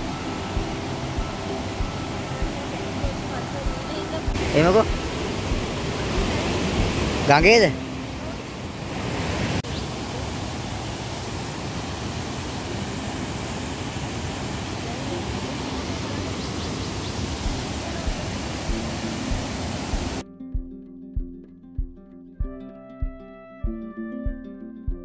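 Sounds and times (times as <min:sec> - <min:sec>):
waterfall roaring over boulders: 0:00.0 - 0:20.2.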